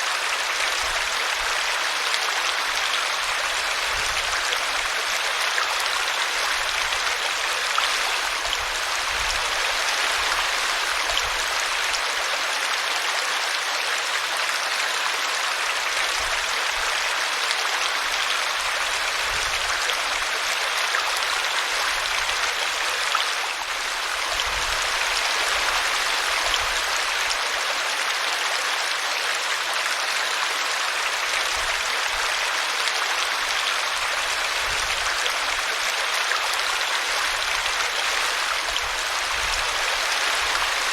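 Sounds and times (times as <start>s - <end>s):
brook babbling: 0.0s - 40.9s.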